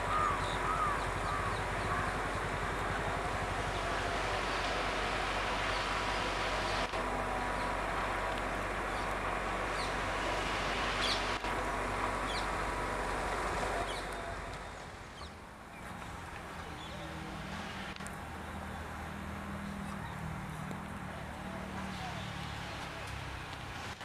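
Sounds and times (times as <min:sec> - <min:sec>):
engine rumble with hiss: 0:00.0 - 0:24.0.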